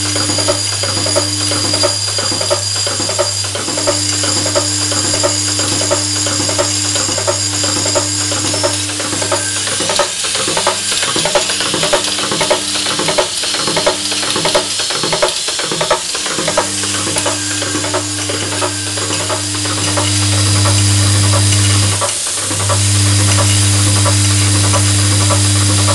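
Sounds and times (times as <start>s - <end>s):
electromagnetic hum: 0.0s - 14.7s, 16.4s - 25.9s.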